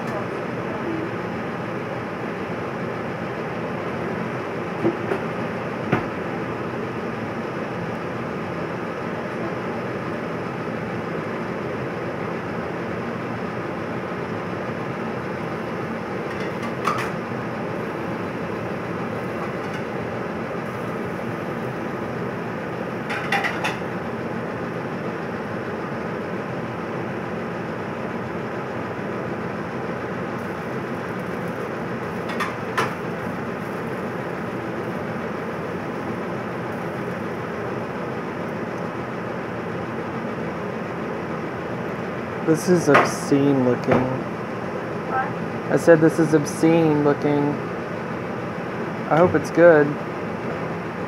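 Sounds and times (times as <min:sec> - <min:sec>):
rotisserie oven mechanical whir: 0:00.0 - 0:51.0.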